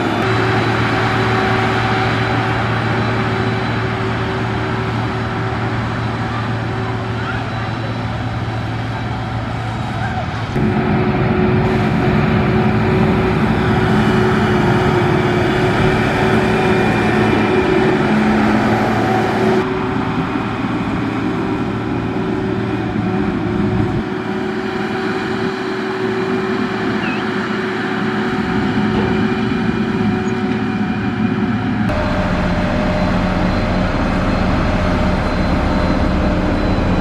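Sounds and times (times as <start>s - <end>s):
heavy machinery diesel engine: 0.0s - 37.0s.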